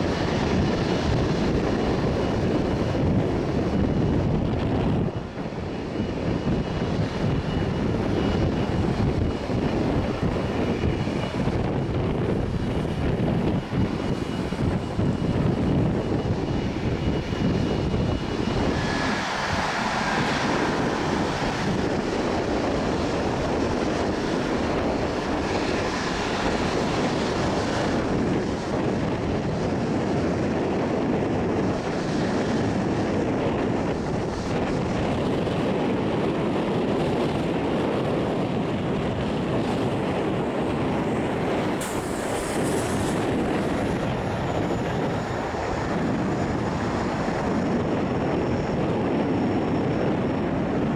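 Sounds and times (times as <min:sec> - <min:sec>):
jet engines running at taxi power: 0:00.0 - 0:50.9.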